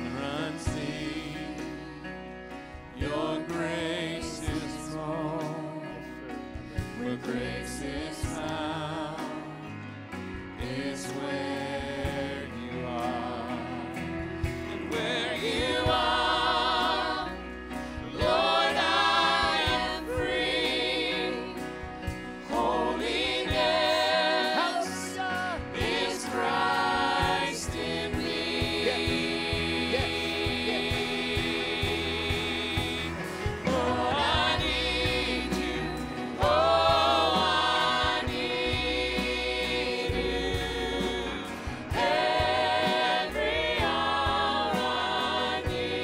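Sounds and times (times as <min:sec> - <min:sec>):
worship band and singers: 0:00.0 - 0:46.0.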